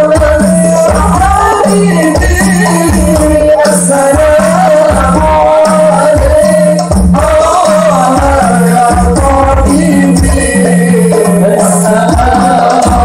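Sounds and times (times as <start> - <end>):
low drum beat: 0.0 - 13.0
man singing through microphone: 0.0 - 13.0.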